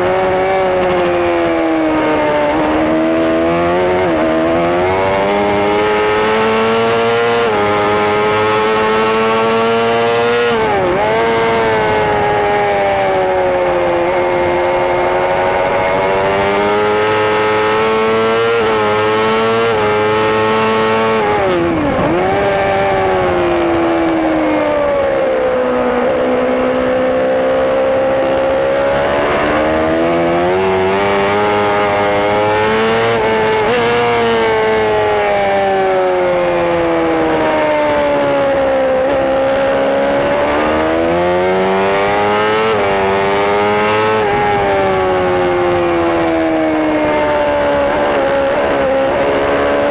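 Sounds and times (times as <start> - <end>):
racing motorcycle engine revving: 0.0 - 49.9.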